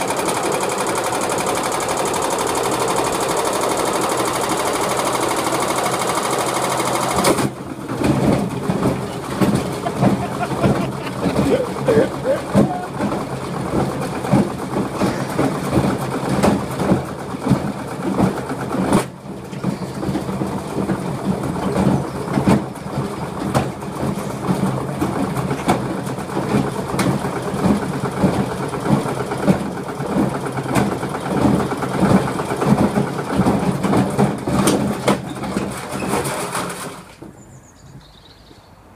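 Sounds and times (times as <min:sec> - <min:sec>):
washing machine motor hum: 0:00.0 - 0:36.5
load clattering and banging in drum: 0:00.0 - 0:37.4.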